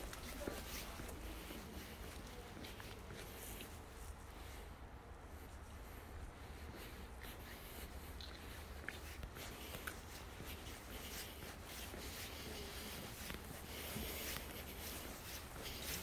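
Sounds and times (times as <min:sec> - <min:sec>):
footsteps on pavement: 0:00.0 - 0:04.6, 0:05.6 - 0:16.0
rustling against microphone: 0:00.0 - 0:16.0.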